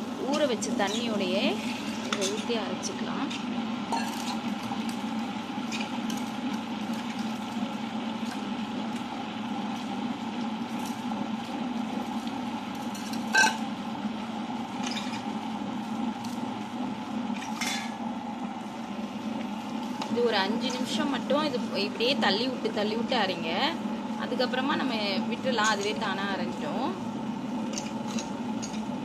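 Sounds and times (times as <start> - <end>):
wet grinder running: 0.0 - 29.0.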